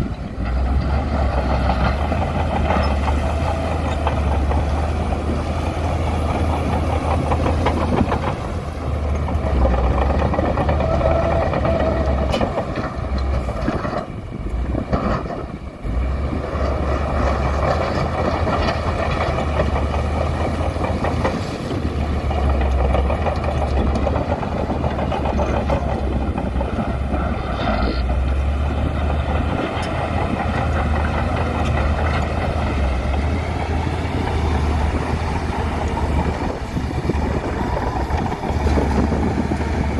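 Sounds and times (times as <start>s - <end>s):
bulldozer diesel engine rumbling: 0.0s - 39.9s.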